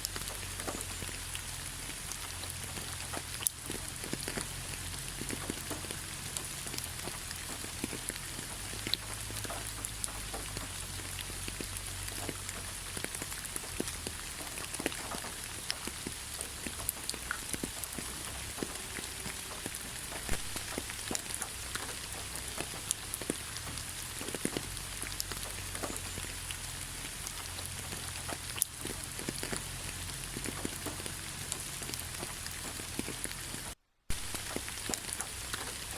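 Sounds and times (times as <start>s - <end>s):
raindrops pattering: 0.0s - 35.9s
steady rain hiss: 0.0s - 35.9s.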